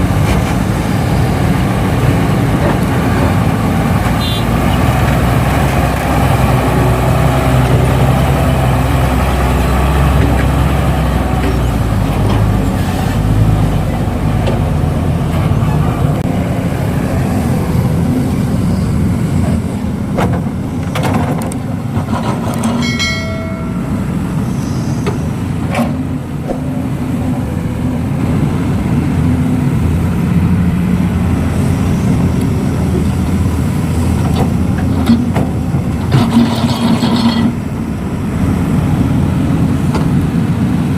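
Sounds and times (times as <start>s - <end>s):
diesel engines rumbling: 0.0s - 40.9s.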